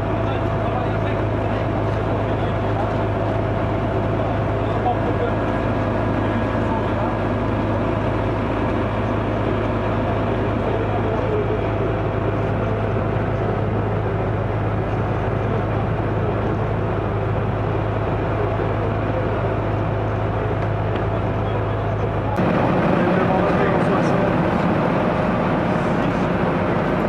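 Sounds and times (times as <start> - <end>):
faint whine: 0.0 - 27.0
fire engine idling drone: 0.0 - 27.0.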